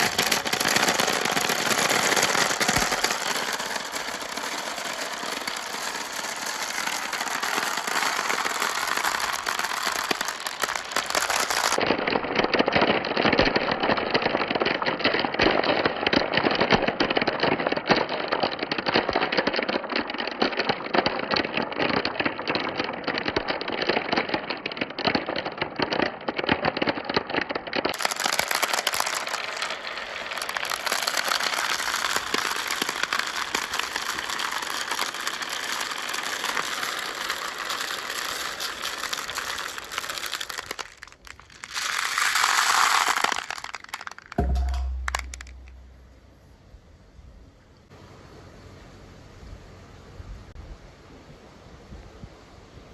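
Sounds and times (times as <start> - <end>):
marbles rolling and clattering: 0.0 - 17.7, 18.4 - 45.8.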